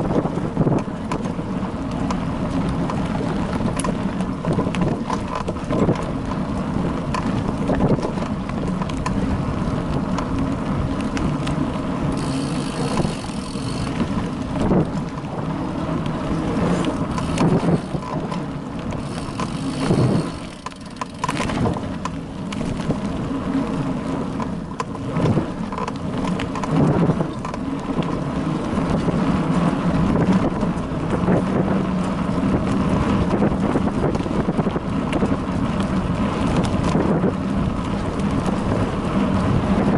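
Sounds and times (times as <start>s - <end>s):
bicycle knocks and rattles: 0.0s - 39.9s
bicycle tyres rumbling: 0.0s - 39.9s
wind on microphone: 0.0s - 39.9s.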